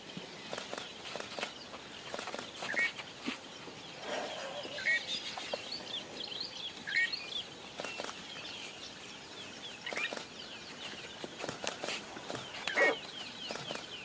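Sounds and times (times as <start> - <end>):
flock of birds chirping: 0.0 - 14.0.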